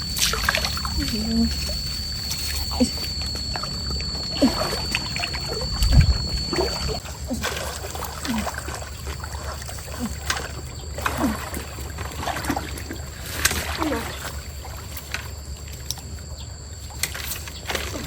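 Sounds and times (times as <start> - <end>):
stream water gurgling: 0.0 - 16.2
high-pitched tone: 0.0 - 17.1.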